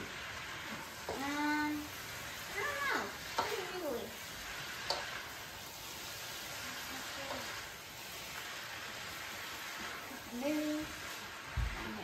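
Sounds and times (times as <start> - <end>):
stir-fry sizzling in a hot pan: 0.0 - 12.0.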